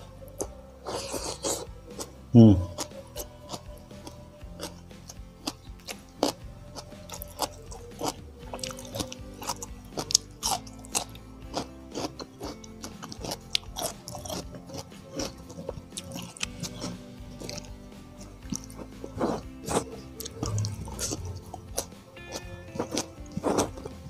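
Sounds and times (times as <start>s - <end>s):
background music: 0.0s - 24.0s
wet chewing mouth clicks: 0.4s - 24.0s.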